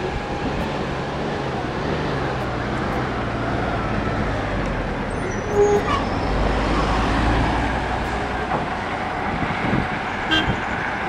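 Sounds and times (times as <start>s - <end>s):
surrounding traffic: 0.0s - 11.0s
vehicle engine and road noise: 0.0s - 11.0s.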